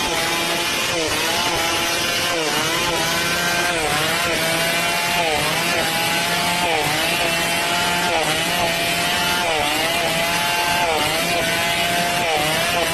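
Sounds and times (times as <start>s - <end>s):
chainsaw cutting wood: 0.0s - 12.9s.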